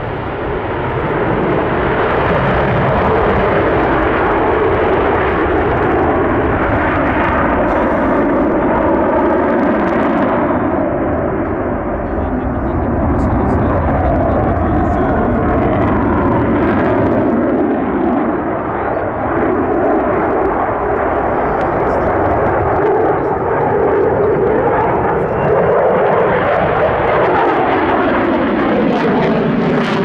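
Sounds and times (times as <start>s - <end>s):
fighter jet rumble: 0.0s - 30.0s.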